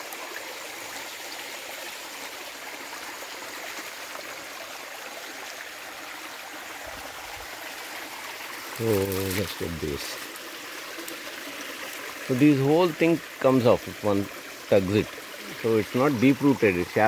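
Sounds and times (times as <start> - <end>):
stream flowing water: 0.0 - 17.0.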